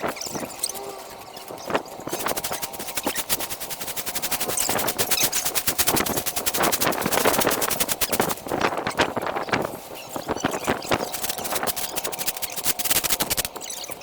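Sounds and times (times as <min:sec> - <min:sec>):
fast mechanical clicking rattle: 0:00.0 - 0:14.0.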